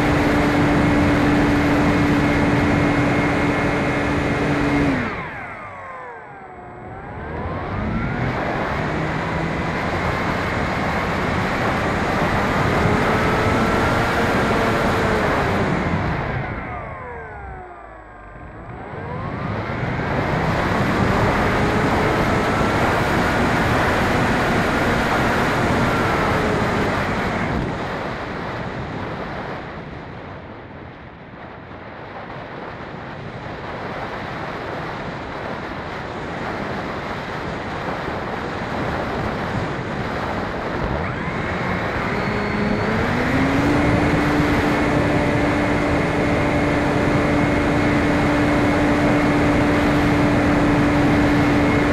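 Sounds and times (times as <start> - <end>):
electric motor and propeller whine: 0.0 - 30.8, 31.8 - 51.9.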